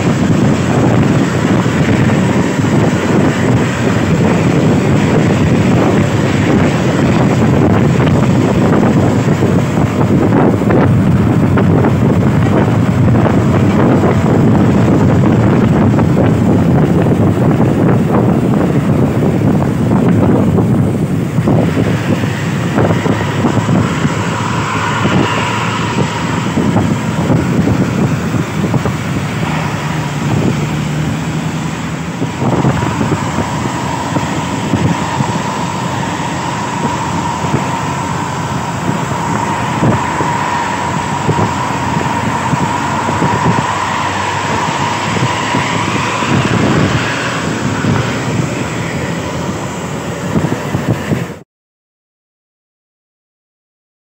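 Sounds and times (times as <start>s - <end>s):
road traffic noise: 0.0s - 51.4s
steady high whine: 0.0s - 51.4s
wind buffeting microphone: 0.0s - 51.4s.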